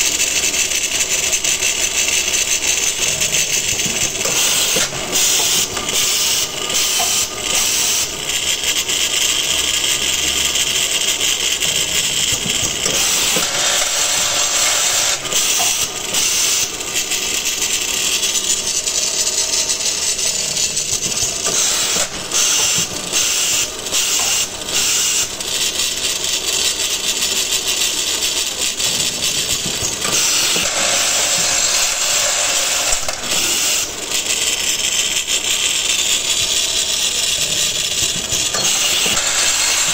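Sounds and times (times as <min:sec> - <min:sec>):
machine mechanical noise with hiss: 0:00.0 - 0:18.7, 0:19.4 - 0:39.9.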